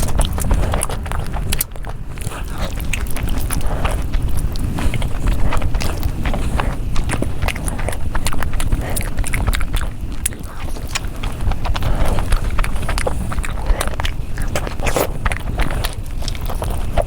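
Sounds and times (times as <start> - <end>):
low rumble: 0.0 - 17.0
wet chewing and lip-smacking: 0.0 - 17.0.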